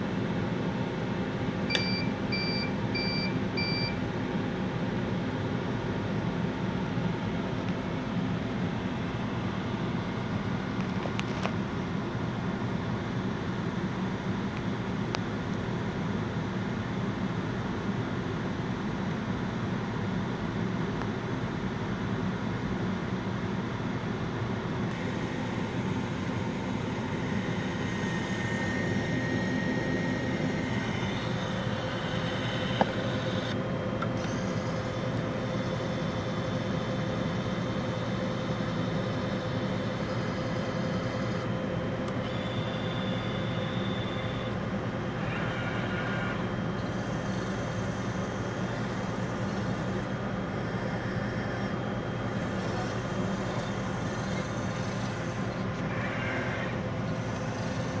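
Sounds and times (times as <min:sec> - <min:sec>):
fans and motors humming: 0:00.0 - 0:58.0.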